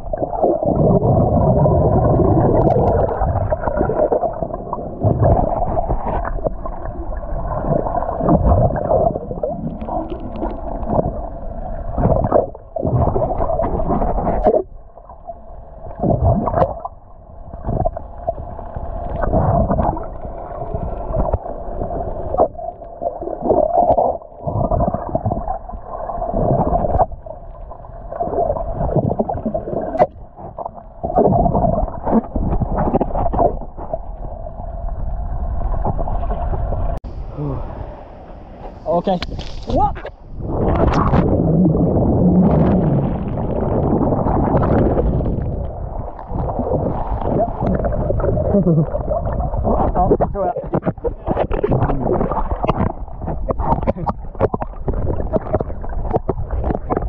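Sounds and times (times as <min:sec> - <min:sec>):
water sloshing underwater: 0:00.0 - 0:57.0.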